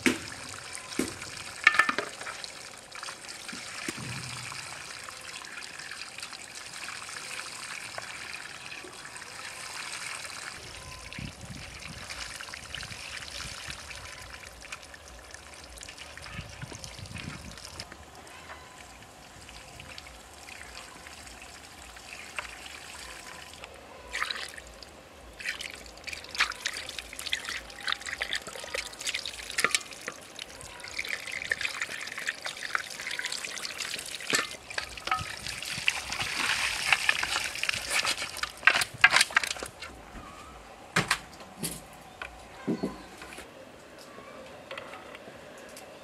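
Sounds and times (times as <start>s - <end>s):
water trickling and splashing: 0.0s - 40.1s.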